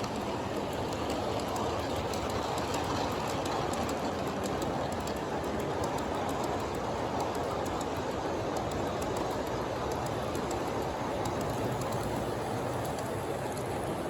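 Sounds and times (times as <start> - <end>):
model train whirring rumble: 0.0 - 14.0
wheels clicking on rails: 0.0 - 14.0.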